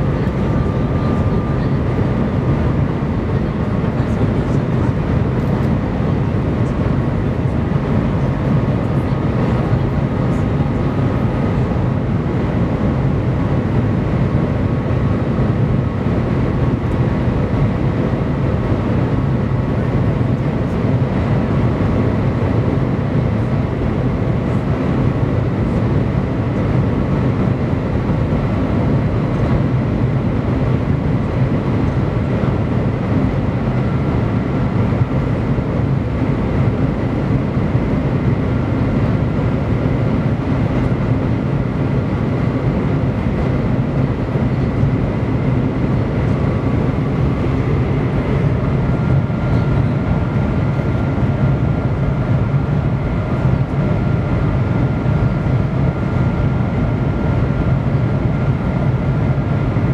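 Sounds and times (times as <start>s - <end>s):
faint steady whine: 0.0s - 59.9s.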